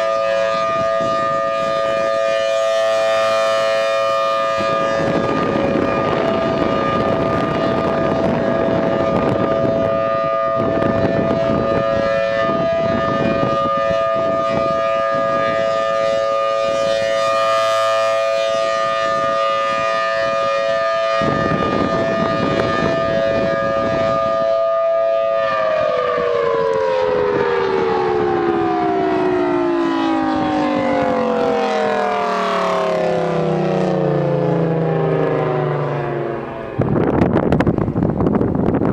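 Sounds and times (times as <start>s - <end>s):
outdoor warning siren: 0.0s - 38.9s.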